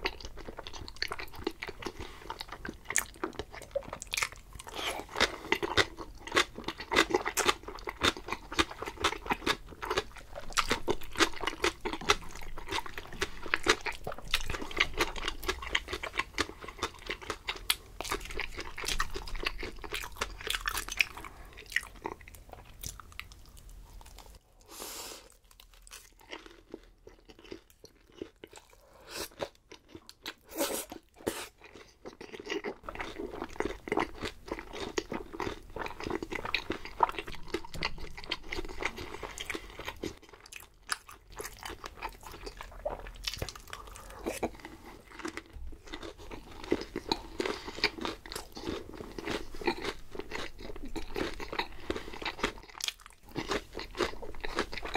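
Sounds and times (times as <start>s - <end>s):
crunchy food chewing: 0.0s - 24.4s, 25.3s - 54.9s.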